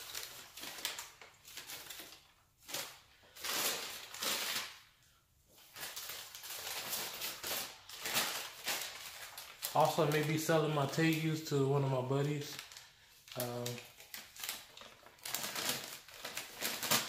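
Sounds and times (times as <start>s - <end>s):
newspaper rustling and crinkling: 0.0s - 17.0s.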